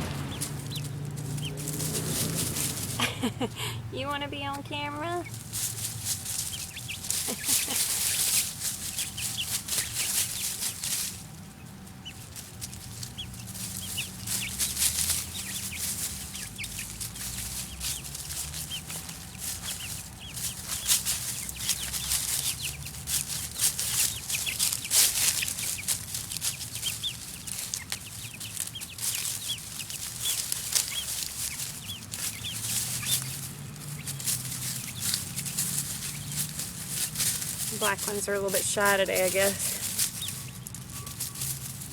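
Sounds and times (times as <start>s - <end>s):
chickens scratching in dry leaves: 0.0s - 41.9s
chicks peeping: 0.0s - 41.9s.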